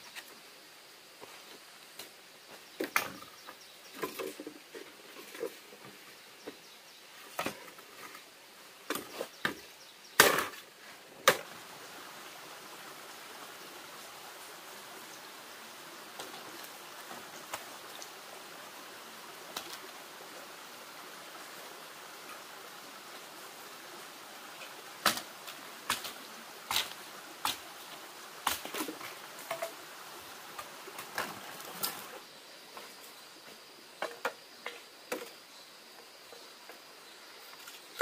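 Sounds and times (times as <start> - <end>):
steady background hiss: 0.0 - 38.0.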